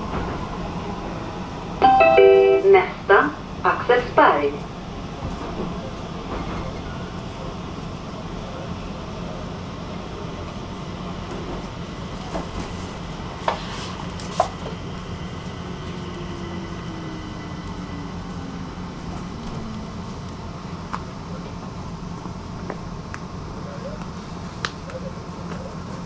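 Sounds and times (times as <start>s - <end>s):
metro train rumble and hum: 0.0s - 26.0s.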